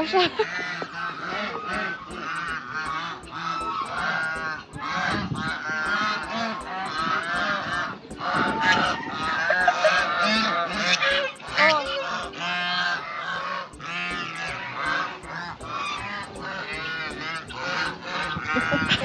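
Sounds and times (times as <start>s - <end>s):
waterfowl flock calling: 0.0s - 19.0s.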